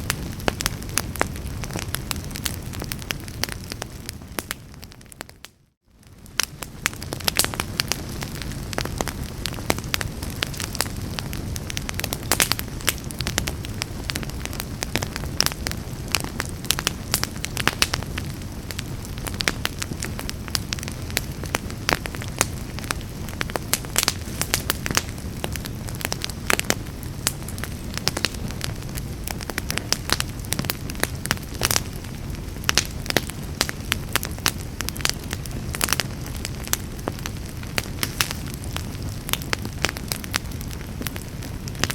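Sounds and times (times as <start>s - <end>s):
fire crackling and popping: 0.0s - 41.9s
low noise of flames: 0.0s - 41.9s.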